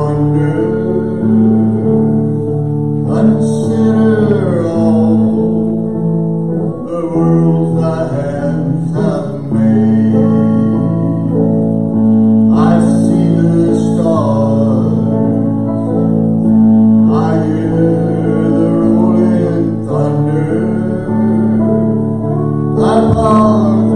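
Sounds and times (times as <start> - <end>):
worship band playing guitars: 0.0 - 23.9.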